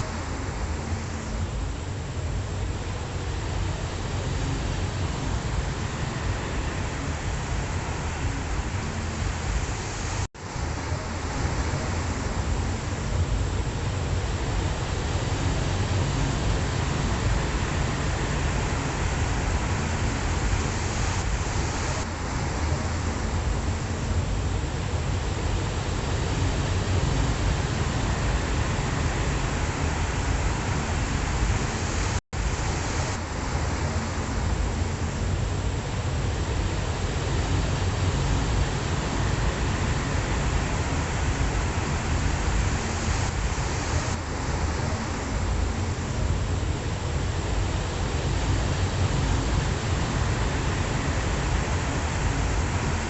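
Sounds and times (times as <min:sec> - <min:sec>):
ocean waves washing on shore: 0:00.0 - 0:53.0.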